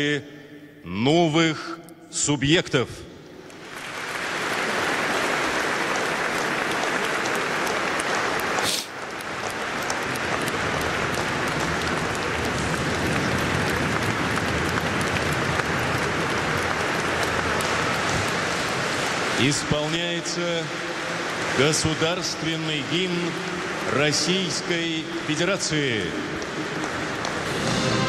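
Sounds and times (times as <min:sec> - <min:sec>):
large audience applauding: 0:03.4 - 0:28.0.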